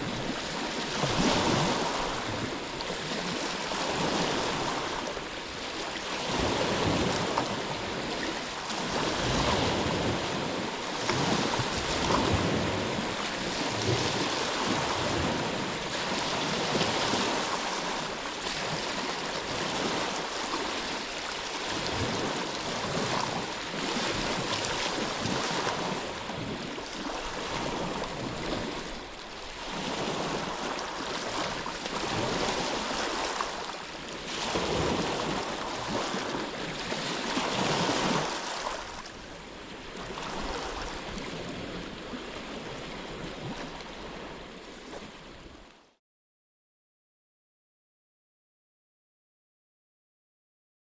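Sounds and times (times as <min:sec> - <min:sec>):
ocean waves breaking: 0:00.0 - 0:45.8.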